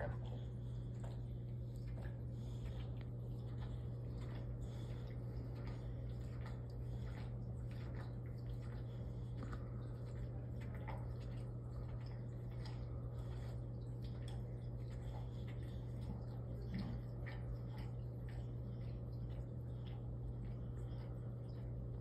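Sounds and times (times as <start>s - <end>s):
aquarium equipment humming: 0.0s - 22.0s
water drips: 0.0s - 22.0s.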